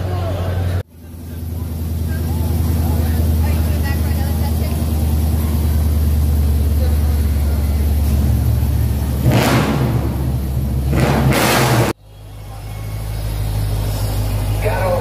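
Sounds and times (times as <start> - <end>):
engine idling and revving: 0.0 - 15.0.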